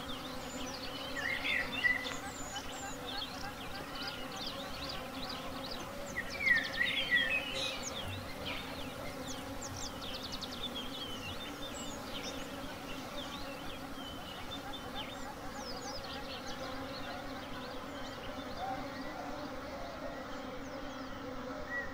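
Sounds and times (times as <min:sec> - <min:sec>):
bees buzzing: 0:00.0 - 0:21.9.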